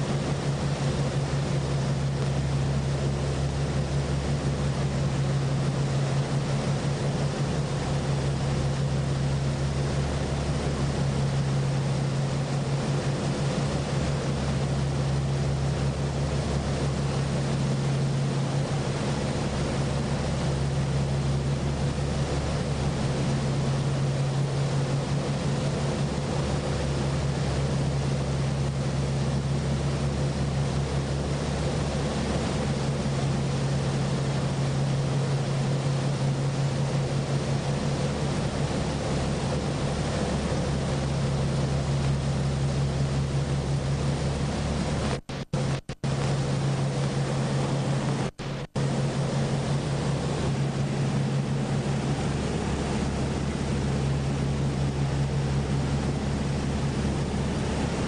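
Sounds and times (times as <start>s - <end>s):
motorboat engine drone: 0.0s - 58.0s
rushing wind and water: 0.0s - 58.0s.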